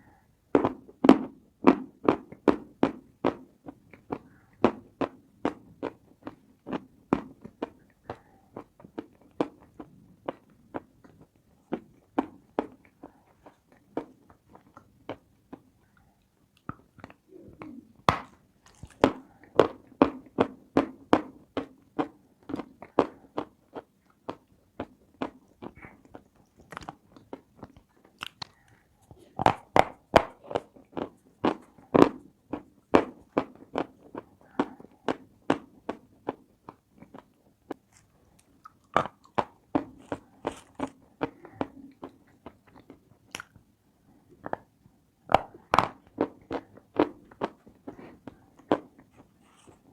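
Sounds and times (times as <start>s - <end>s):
chewing crunchy food: 3.6s - 20.0s, 21.9s - 49.9s.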